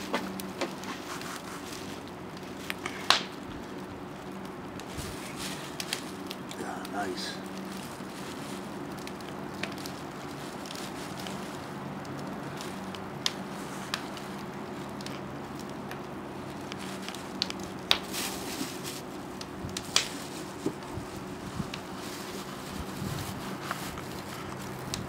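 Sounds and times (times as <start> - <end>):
plastic sheeting crinkling: 0.0 - 25.0
steady low hum: 0.0 - 25.0.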